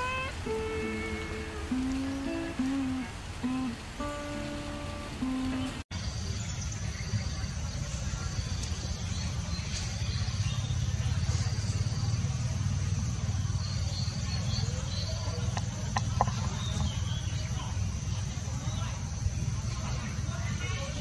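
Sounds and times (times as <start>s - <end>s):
faint chirps: 0.0s - 21.0s
high drone of insects: 0.0s - 21.0s.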